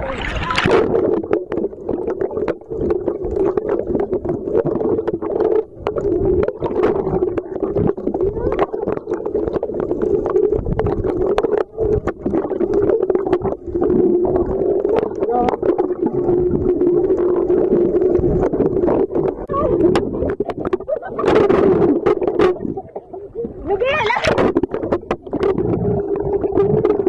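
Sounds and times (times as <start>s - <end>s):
clicks and crackles of bubbles: 0.0s - 27.0s
muffled underwater hum: 0.0s - 27.0s.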